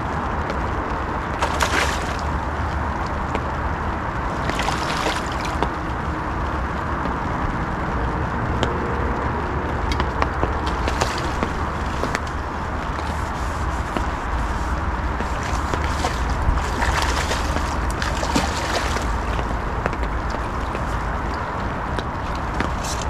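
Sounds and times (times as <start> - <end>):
water sloshing and trickling: 0.0 - 7.6, 9.6 - 23.0
steady low rumble: 0.0 - 23.0.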